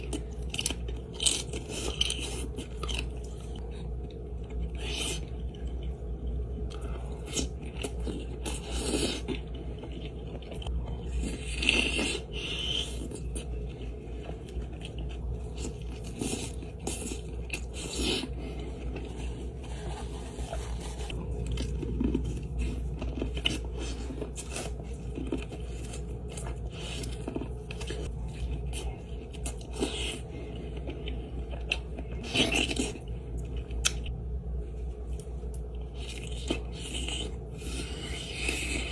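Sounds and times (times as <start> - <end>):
person chewing food: 0.0 - 34.2, 35.0 - 38.9.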